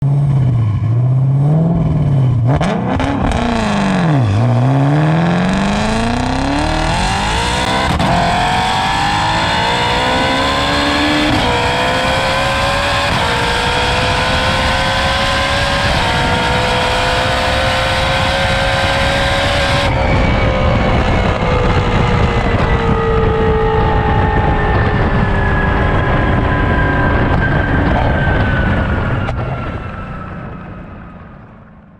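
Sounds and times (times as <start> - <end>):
sports car engine revving: 0.1 - 28.3
car accelerating through upshifts: 1.4 - 29.7.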